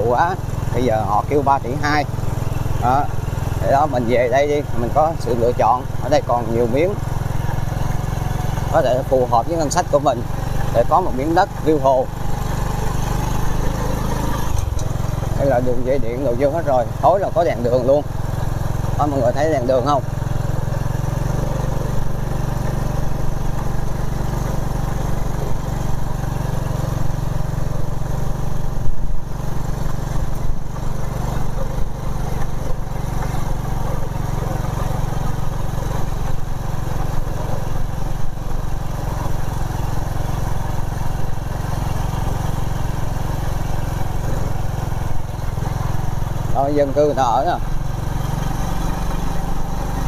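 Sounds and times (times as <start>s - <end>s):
motorbike engine running: 0.0s - 50.0s.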